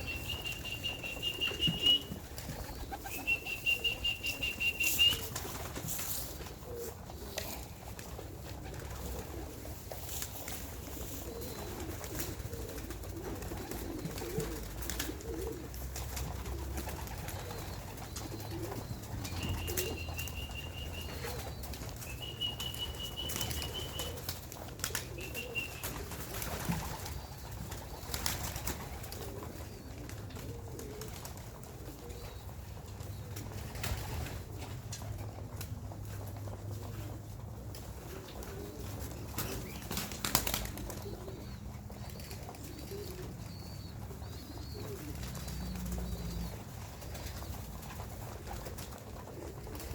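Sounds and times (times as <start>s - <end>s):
wings flapping: 0.0s - 31.8s, 33.3s - 36.5s, 37.7s - 43.3s, 44.8s - 49.9s
pigeons cooing: 0.0s - 49.9s.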